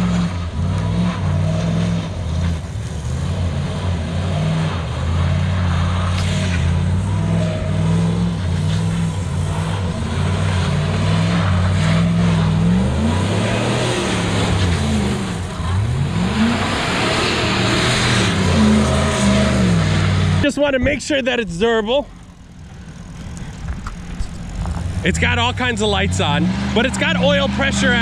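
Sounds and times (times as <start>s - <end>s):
truck engine at high revs: 0.0s - 28.0s
tyres spinning on snow: 0.0s - 28.0s.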